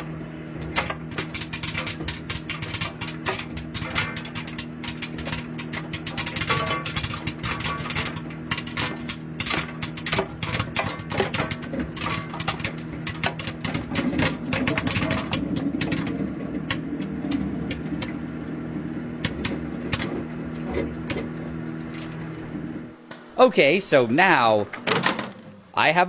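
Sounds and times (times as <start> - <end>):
popcorn popping: 0.0 - 23.3
microwave oven hum: 0.0 - 26.0.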